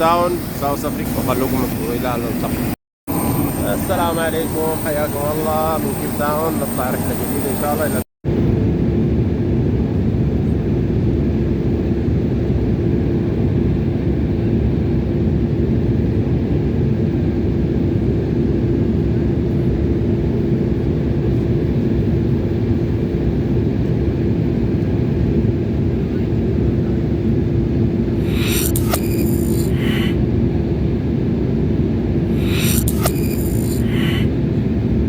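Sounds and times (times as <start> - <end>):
airliner engine roar in cabin: 0.0 - 35.0
constant low hum: 0.0 - 35.0.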